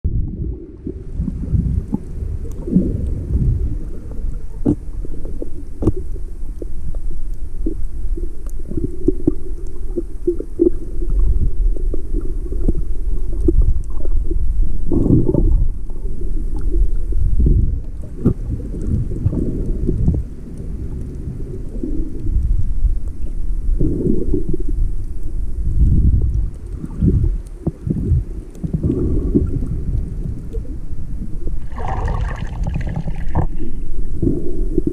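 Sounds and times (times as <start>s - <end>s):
underwater rumble of moving water: 0.0s - 34.9s
sharp clicks and crackles: 1.2s - 31.6s.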